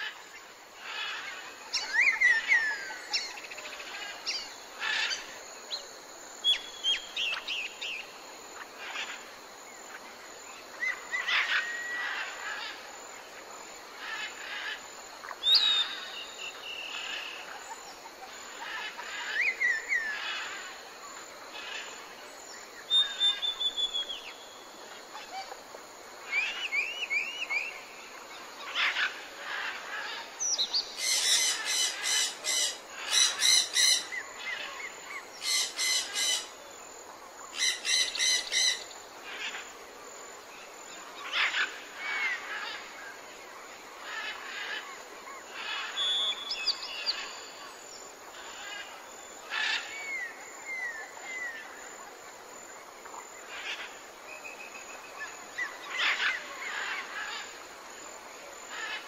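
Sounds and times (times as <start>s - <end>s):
steady background hiss: 0.0s - 59.0s
wild birds calling and singing: 0.0s - 59.0s.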